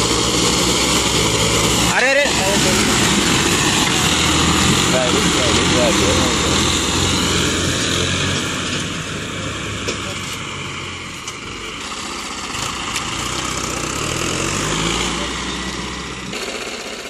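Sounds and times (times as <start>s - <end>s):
tractor diesel engines under load: 0.0s - 17.0s.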